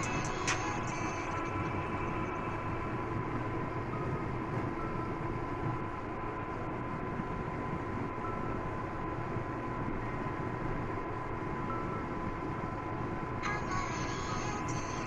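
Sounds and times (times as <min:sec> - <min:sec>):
faint high hum: 0:00.0 - 0:15.0.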